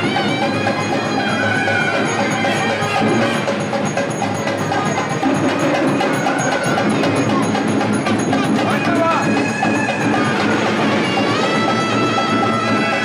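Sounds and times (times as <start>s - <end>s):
bells and percussion rhythm: 0.0s - 13.0s
wavering melody line: 0.0s - 13.0s.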